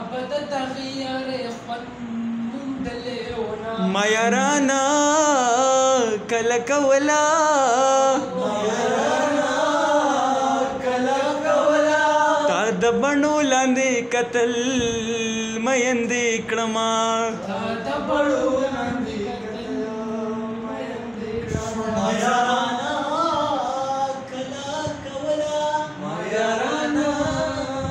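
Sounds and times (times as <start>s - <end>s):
man singing unaccompanied: 1.8s - 27.9s.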